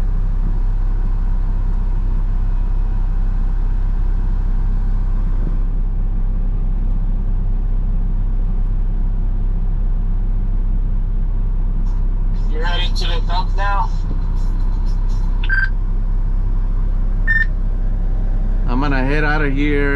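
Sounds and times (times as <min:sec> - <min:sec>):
diesel truck engine idling: 0:00.0 - 0:19.9.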